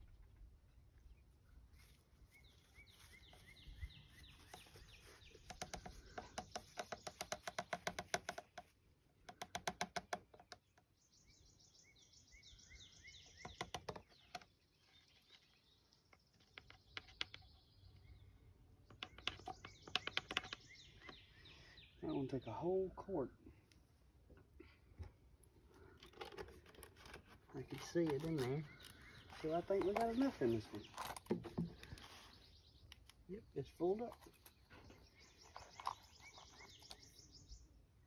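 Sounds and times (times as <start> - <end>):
birds chirping: 0.0 - 8.6, 10.6 - 38.0.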